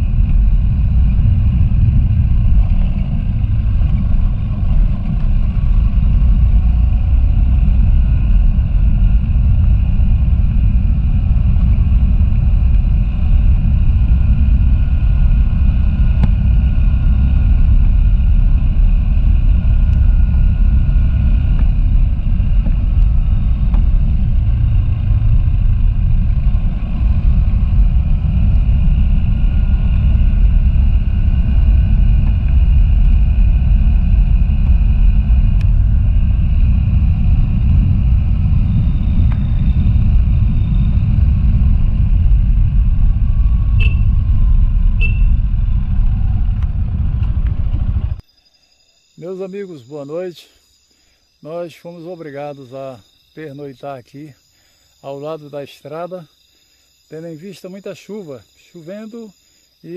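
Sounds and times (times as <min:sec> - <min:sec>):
motorcycle engine rumbling: 0:00.0 - 0:48.2.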